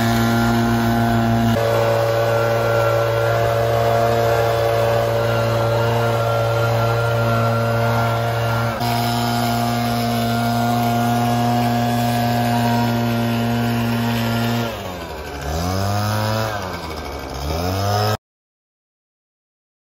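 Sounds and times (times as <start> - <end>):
leaf blower engine revving: 0.0 - 18.2.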